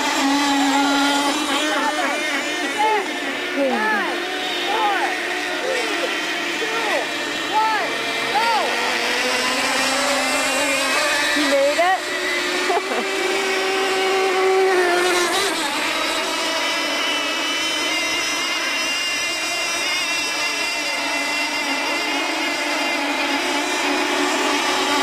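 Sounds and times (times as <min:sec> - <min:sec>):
model boat engines whining: 0:00.0 - 0:25.0.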